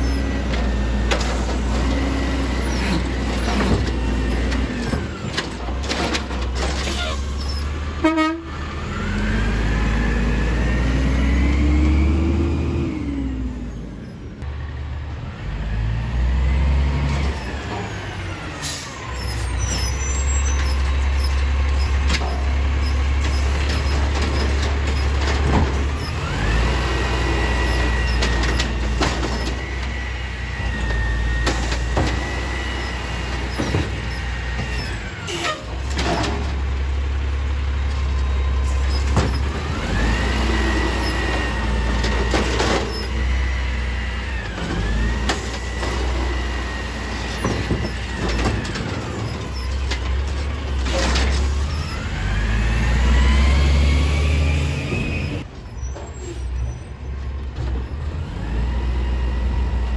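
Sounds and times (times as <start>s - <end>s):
garbage truck engine rumble: 0.0s - 59.9s.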